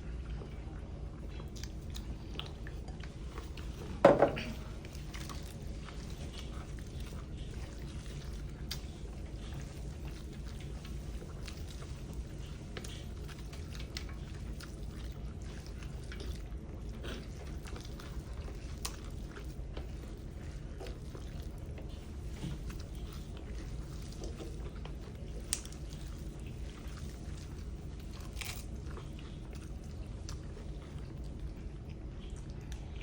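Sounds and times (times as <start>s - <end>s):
chewing and slurping: 0.0s - 33.0s
steady low hum: 0.0s - 33.0s.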